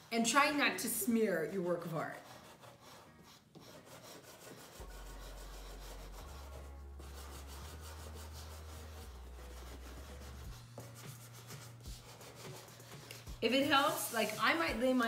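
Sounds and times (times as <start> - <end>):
pastel scratching on paper: 1.9 - 15.0.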